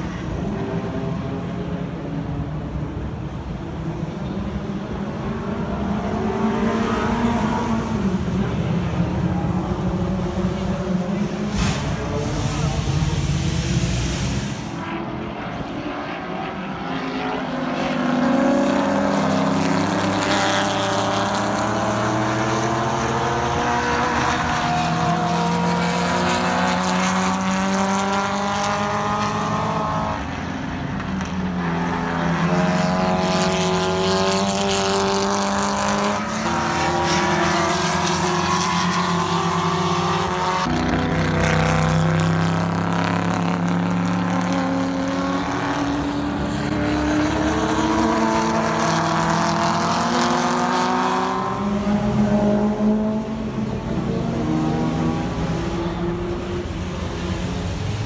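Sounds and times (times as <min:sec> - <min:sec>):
racing car engines accelerating: 0:00.0 - 0:58.0.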